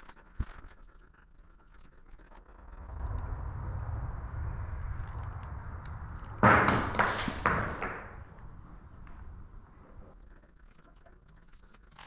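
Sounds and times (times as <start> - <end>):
low rumble: 0.9 - 10.6.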